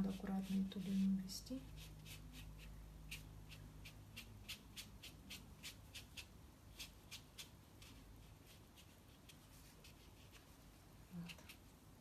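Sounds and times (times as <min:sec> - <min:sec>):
brush strokes on paper: 0:00.0 - 0:11.8.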